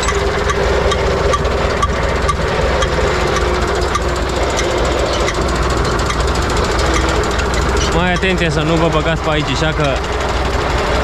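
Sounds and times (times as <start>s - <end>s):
mower metallic rattle: 0.0s - 11.0s
tractor diesel engine: 0.0s - 11.0s.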